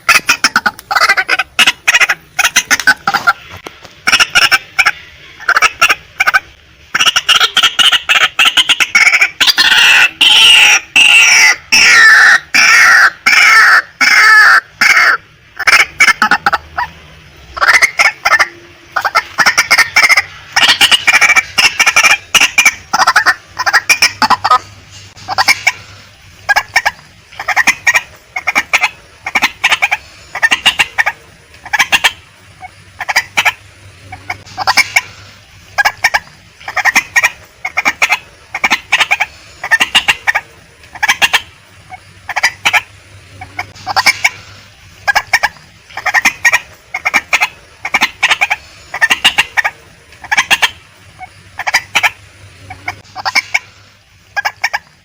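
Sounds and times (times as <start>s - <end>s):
waterhen clucking calls: 0.0s - 55.0s.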